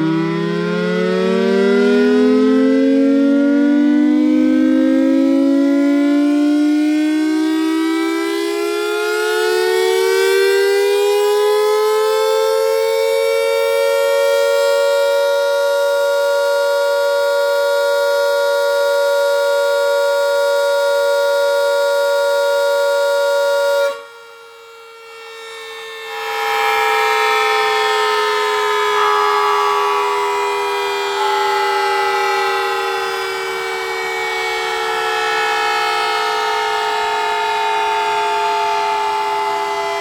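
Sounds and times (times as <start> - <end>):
outdoor warning sirens: 0.0 - 40.0.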